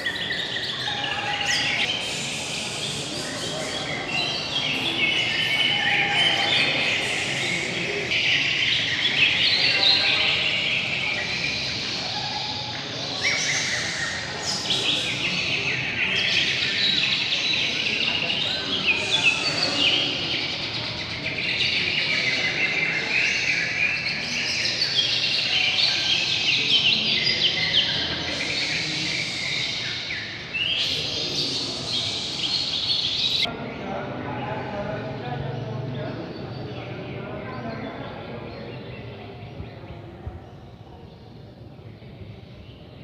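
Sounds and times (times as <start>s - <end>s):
many songbirds singing: 0.0s - 43.0s.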